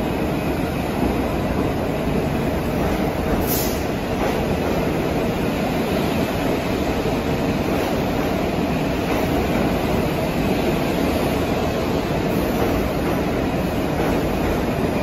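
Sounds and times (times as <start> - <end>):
subway train rumbling past: 0.0 - 15.0.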